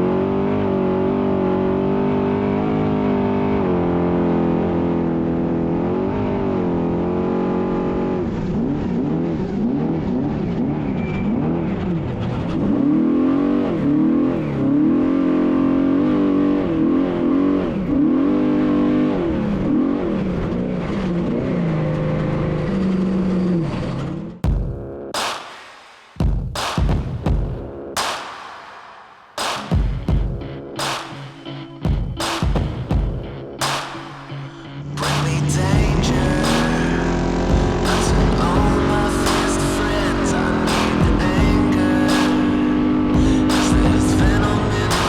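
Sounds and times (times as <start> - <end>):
truck engine revving: 0.0 - 25.0, 32.2 - 45.0.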